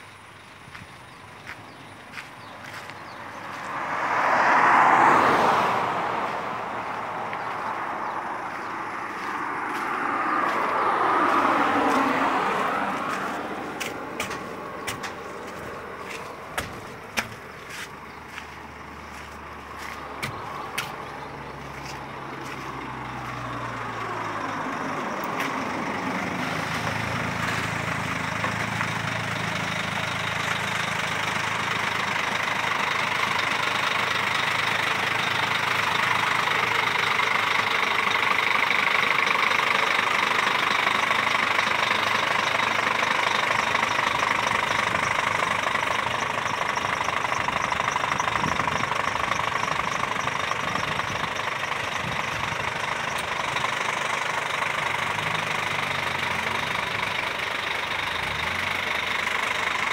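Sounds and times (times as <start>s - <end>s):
diesel engine idling: 0.0s - 59.9s
highway traffic passing: 0.0s - 59.9s.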